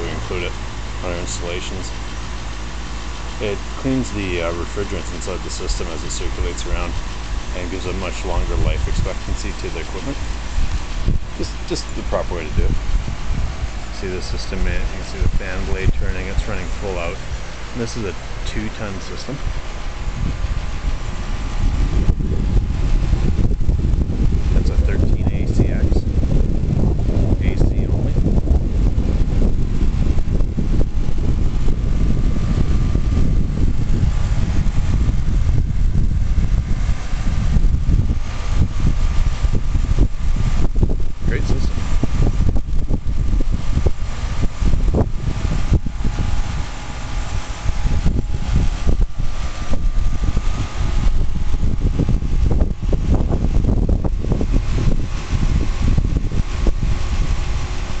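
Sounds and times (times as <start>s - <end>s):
air conditioner unit running: 0.0s - 58.0s.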